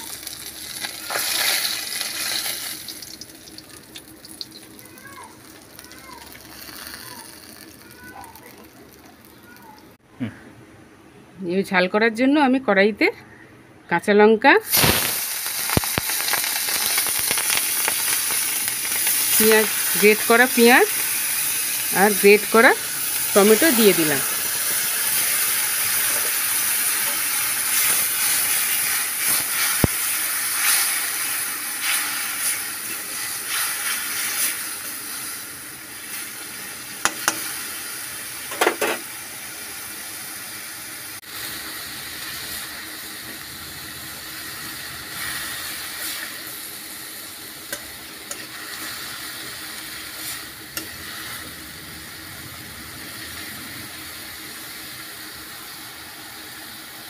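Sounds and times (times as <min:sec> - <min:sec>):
vegetables sizzling in hot oil: 0:00.0 - 0:10.0, 0:14.6 - 0:57.0.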